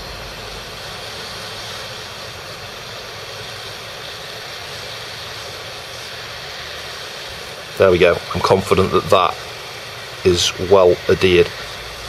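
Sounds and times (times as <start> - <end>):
hot air blower rushing: 0.0 - 12.0.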